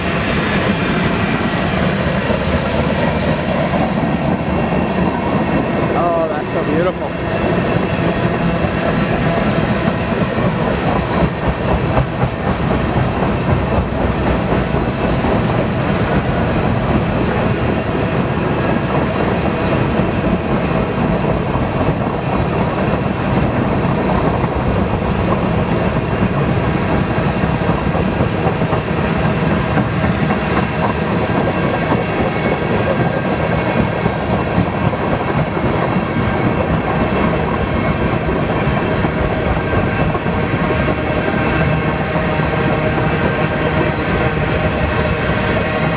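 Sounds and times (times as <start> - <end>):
train wheels clattering over rail joints: 6.7 - 45.9.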